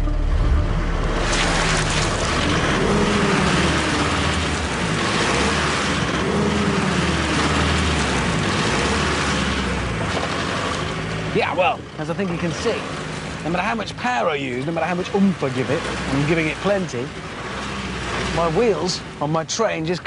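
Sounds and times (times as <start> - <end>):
engine revving: 0.0 - 19.3.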